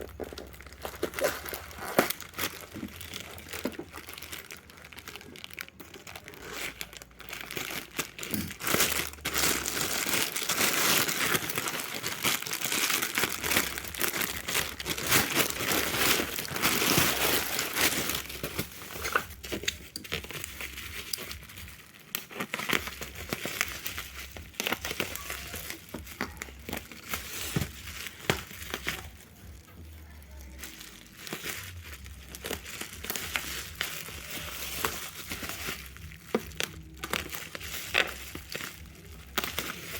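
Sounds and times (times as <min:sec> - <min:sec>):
packaging tearing: 0:00.0 - 0:29.2, 0:30.5 - 0:39.9
packaging crinkling and rustling: 0:00.0 - 0:39.9.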